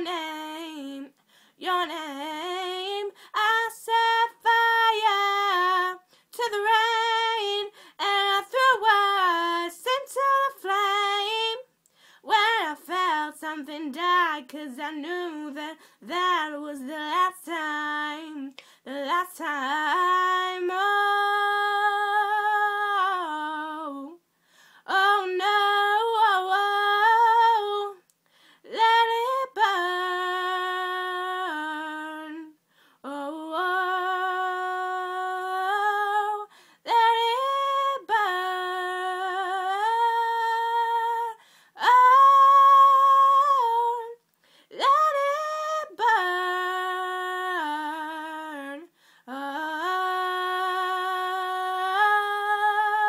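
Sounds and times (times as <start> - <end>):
girl singing unaccompanied: 0.0 - 24.2, 24.8 - 53.0.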